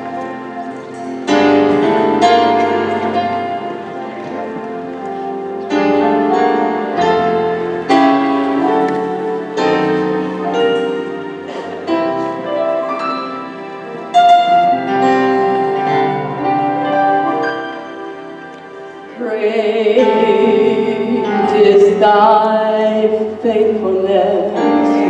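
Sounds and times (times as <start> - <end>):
keyboard chords: 0.0 - 25.0.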